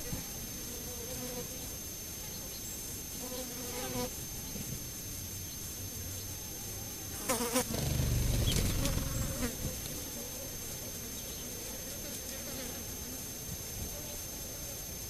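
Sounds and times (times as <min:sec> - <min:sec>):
flying insect buzzing: 0:00.0 - 0:04.9, 0:05.7 - 0:14.2.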